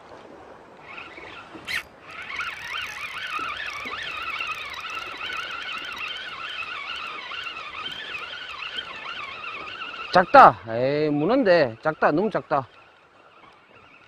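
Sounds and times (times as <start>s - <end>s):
fishing reel whining: 0.7s - 14.0s.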